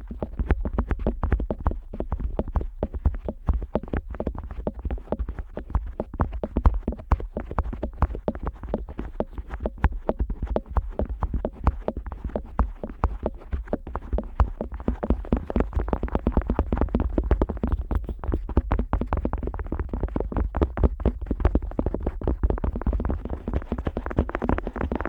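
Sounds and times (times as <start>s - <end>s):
rubbing on microphone: 0.0s - 25.0s.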